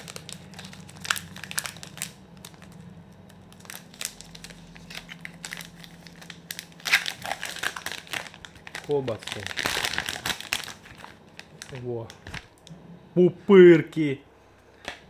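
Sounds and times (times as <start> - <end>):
plastic wrapper crinkling: 0.0 - 12.7.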